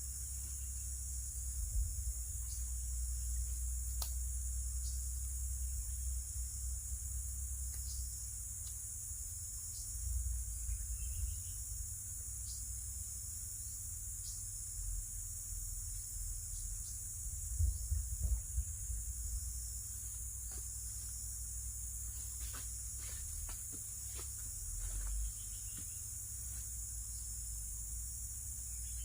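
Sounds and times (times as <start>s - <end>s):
forest insects chorus: 0.0s - 29.0s.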